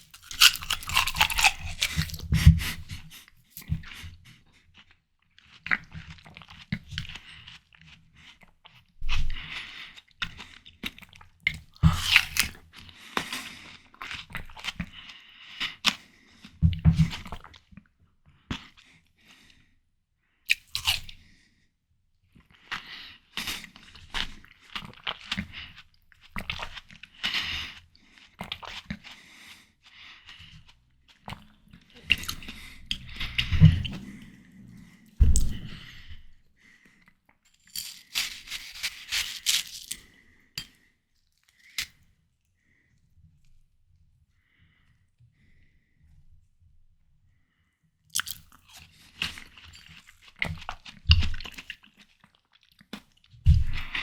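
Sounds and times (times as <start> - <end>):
chewing crunchy watermelon: 0.0 - 17.8, 18.5 - 19.4, 20.5 - 21.3, 22.4 - 37.0, 37.6 - 42.1, 48.1 - 54.0.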